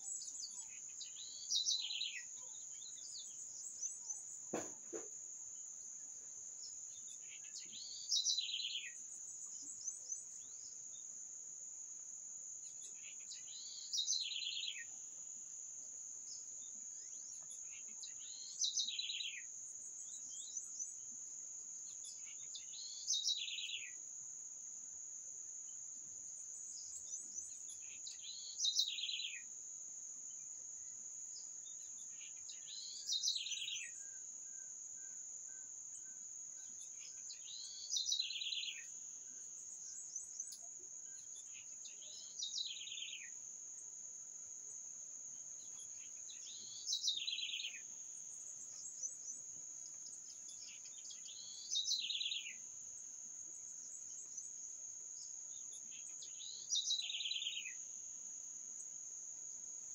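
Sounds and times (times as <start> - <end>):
songbird trill: 0.0 - 59.9.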